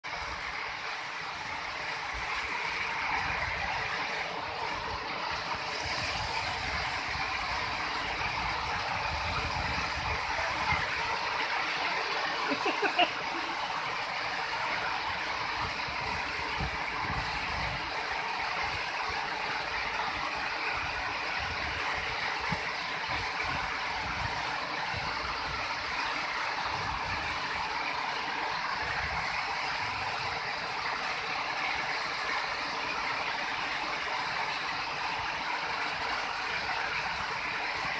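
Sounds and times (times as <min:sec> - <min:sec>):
wind rumbling on microphone: 0:00.1 - 0:31.1.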